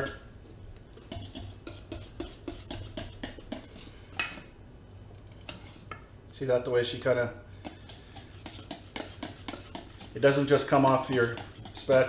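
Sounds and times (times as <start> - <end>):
batter stirred in metal bowl: 0.0 - 4.5, 5.3 - 6.0, 7.5 - 12.0.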